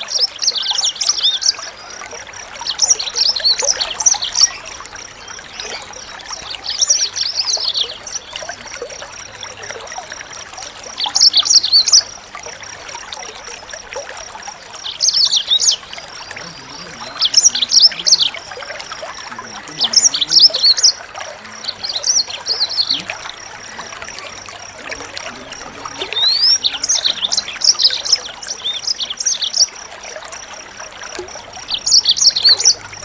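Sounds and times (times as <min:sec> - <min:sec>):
running water hiss: 0:00.0 - 0:33.0
songbird chirping and trilling: 0:00.0 - 0:33.0.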